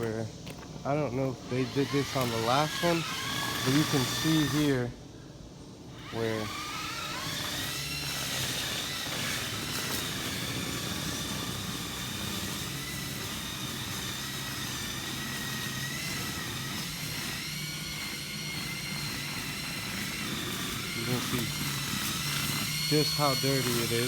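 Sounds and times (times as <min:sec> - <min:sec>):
pressure washer running: 0:00.0 - 0:05.0, 0:05.9 - 0:24.0.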